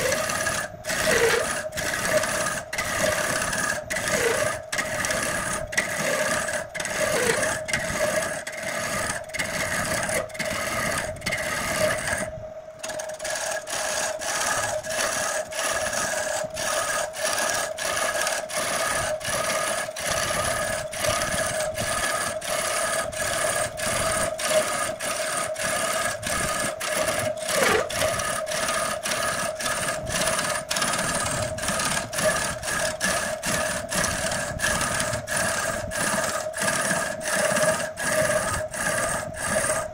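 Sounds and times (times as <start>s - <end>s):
gouge scraping wood: 0.0s - 39.9s
lathe humming: 0.0s - 39.9s.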